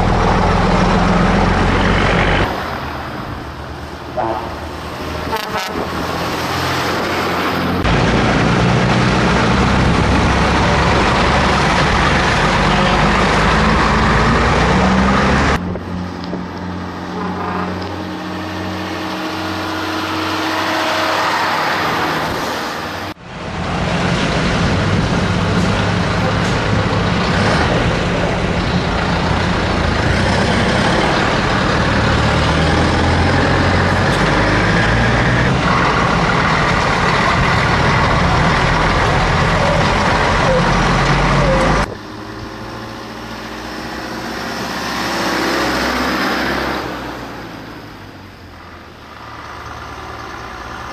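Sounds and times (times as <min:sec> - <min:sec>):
diesel trucks driving past: 0:00.0 - 0:50.9.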